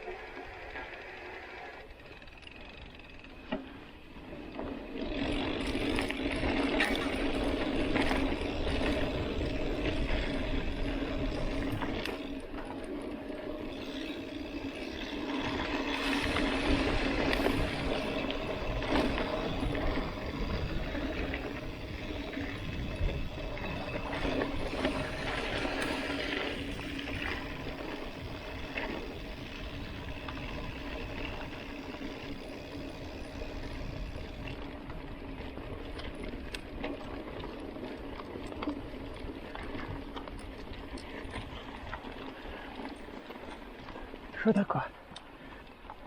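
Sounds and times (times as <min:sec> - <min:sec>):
bike tyres and drivetrain humming: 0:00.0 - 0:46.0.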